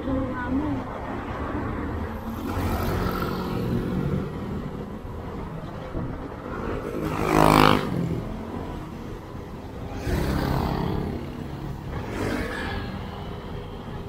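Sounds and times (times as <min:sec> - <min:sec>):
scooter engine and wind rumble: 0:00.0 - 0:14.0
vehicles passing close by: 0:00.0 - 0:14.0.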